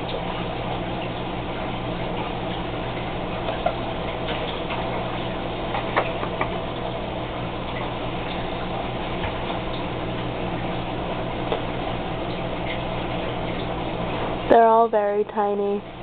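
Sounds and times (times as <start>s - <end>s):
aquarium air pump humming: 0.0s - 16.0s.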